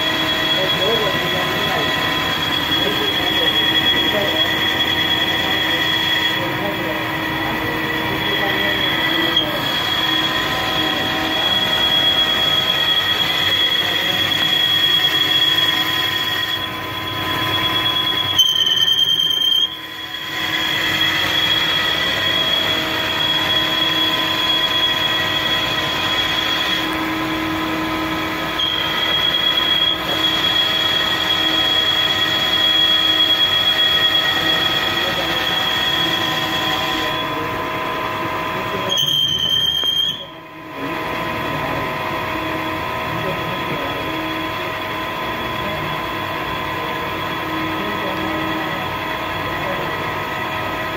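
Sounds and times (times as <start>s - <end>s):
lathe high-pitched whine: 0.0s - 50.9s.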